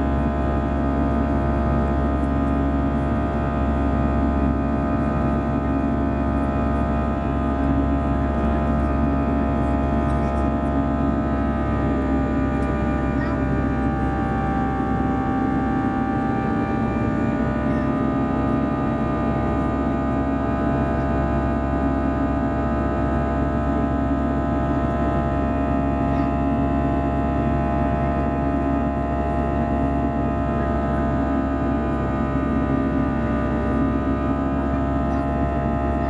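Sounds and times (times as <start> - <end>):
jet engines droning in cabin: 0.0 - 36.0.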